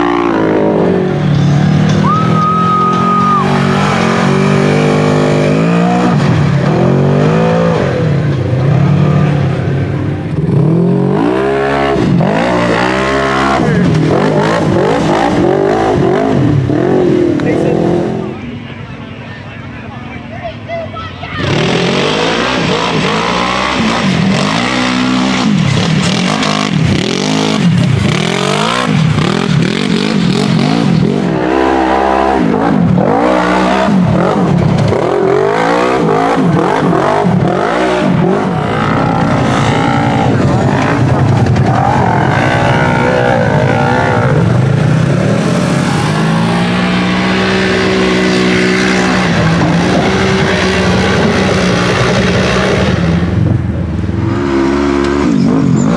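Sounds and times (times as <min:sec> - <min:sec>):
utility vehicle engine revving: 0:00.0 - 0:18.6, 0:21.4 - 0:55.9.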